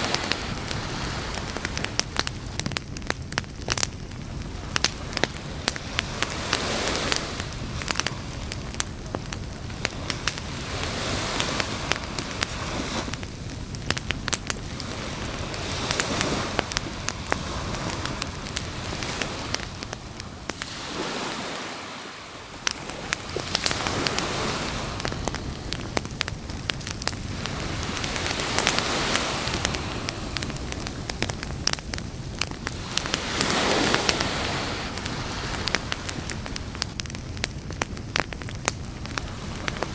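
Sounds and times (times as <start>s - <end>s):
surf: 0.0s - 37.2s
campfire crackling and popping: 0.0s - 39.9s.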